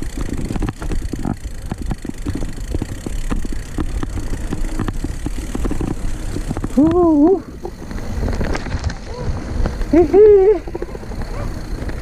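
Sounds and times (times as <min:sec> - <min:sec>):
bike rattling over ground: 0:00.0 - 0:12.0.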